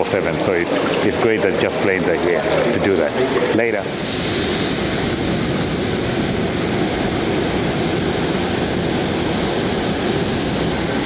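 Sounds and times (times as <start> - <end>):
jet aircraft noise: 0.0 - 11.0.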